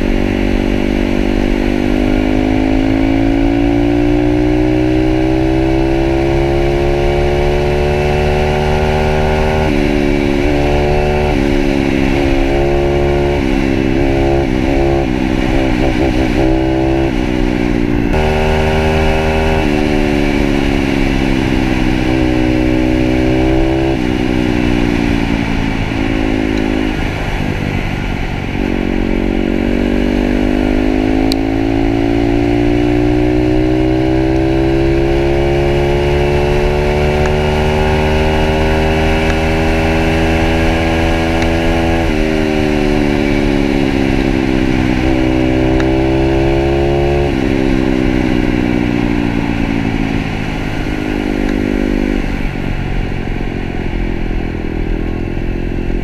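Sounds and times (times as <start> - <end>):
pit bike engine running: 0.0 - 56.0.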